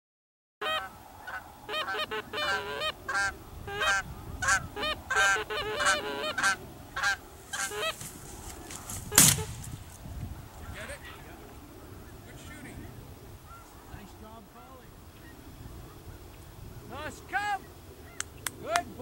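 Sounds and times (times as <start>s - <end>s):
geese honking and clucking: 0.6s - 9.6s, 10.4s - 18.8s.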